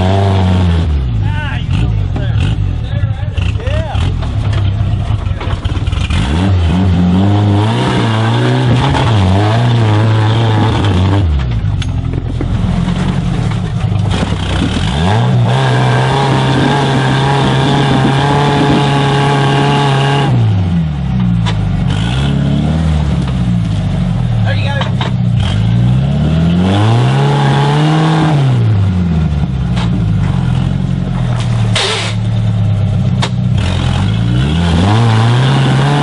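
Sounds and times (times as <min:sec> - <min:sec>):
engine revving under load: 0:00.0 - 0:36.0.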